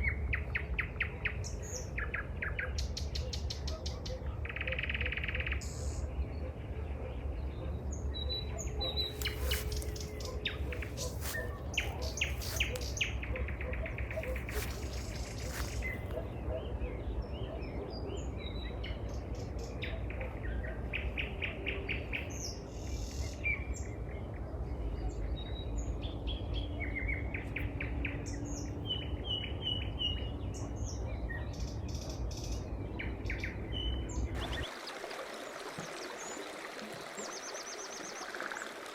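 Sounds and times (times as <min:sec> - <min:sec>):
songbirds singing and trilling: 0:00.0 - 0:38.9.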